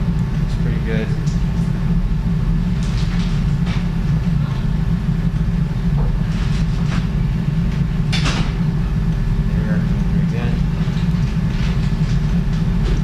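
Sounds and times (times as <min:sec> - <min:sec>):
equipment hum: 0:00.0 - 0:13.0.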